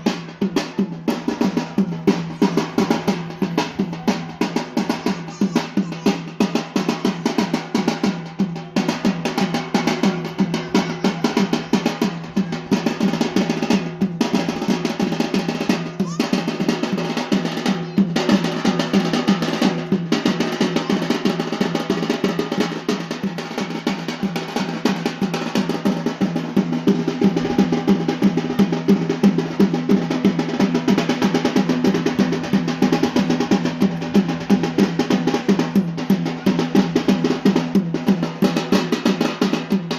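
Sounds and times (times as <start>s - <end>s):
fast dance drums: 0.0s - 39.9s.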